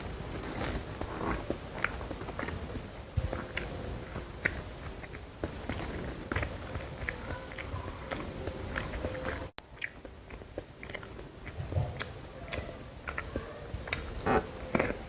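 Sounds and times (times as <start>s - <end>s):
chewing with crunches: 0.0s - 15.0s.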